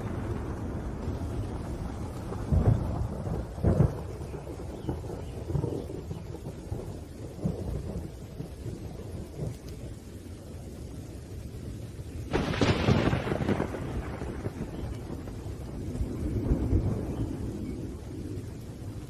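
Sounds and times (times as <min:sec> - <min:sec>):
loud thunderclap: 0:00.0 - 0:09.9, 0:12.3 - 0:18.6
steady rain: 0:00.0 - 0:19.0
thunder rumbling: 0:00.0 - 0:19.0.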